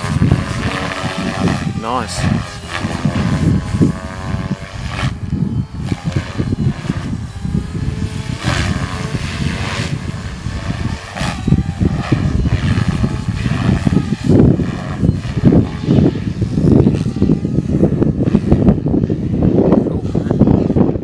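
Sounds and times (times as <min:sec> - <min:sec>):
helicopter rotor whine: 0:00.0 - 0:21.0
wind buffeting microphone: 0:00.0 - 0:21.0.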